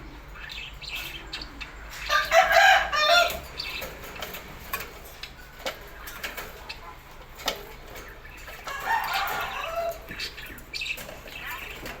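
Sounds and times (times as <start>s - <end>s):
birds calling: 0.0s - 12.0s
harsh clucking bird calls: 0.0s - 12.0s.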